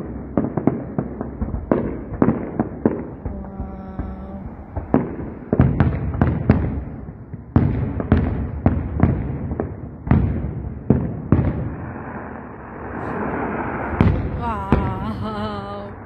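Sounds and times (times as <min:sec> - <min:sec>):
fireworks bursting with echo: 0:00.0 - 0:16.0.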